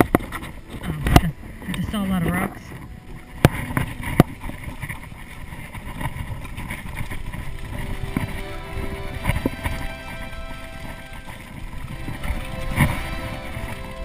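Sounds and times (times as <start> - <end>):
bike rattling over stones: 0.0 - 14.0
wind on microphone: 0.0 - 14.0.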